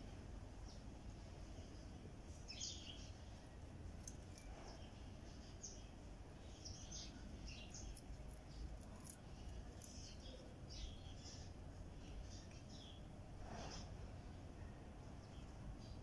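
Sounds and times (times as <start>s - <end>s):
low steady background rumble: 0.0s - 16.0s
birds chirping: 0.6s - 16.0s.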